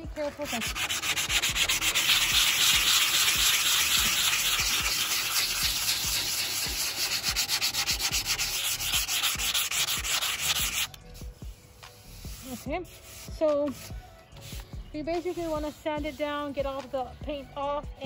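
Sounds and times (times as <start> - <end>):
sandpaper rubbing on wood: 0.0 - 16.8.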